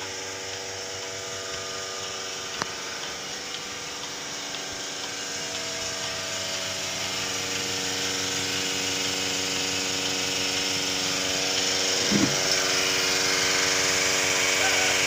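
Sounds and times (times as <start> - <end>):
vacuum pump humming and hissing: 0.0 - 15.0.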